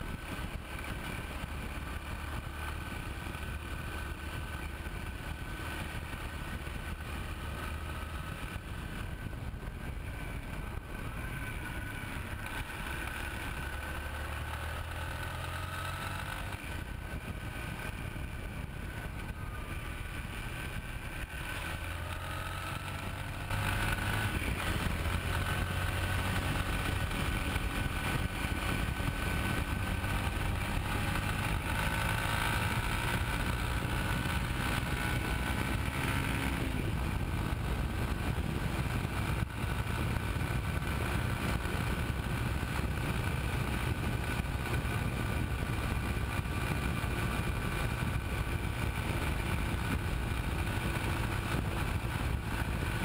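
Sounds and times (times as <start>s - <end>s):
motorcycle engine running: 0.0s - 53.0s
wind: 0.0s - 53.0s.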